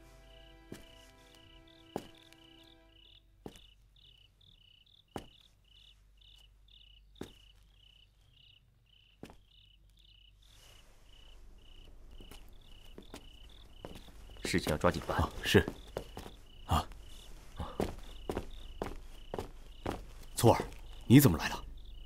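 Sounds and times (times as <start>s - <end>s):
crickets chirping: 0.0s - 22.0s
faint rustle: 0.0s - 22.0s.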